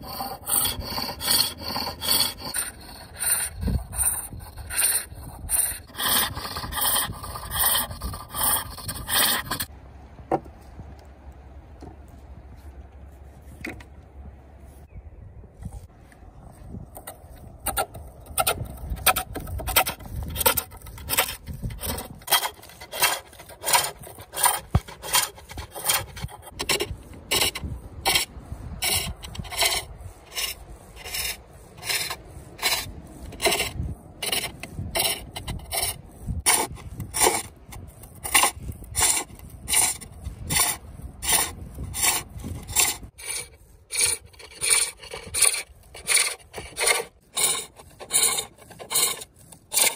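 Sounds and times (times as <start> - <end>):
tool scraping and shaving wood: 0.0 - 9.7, 16.9 - 49.9.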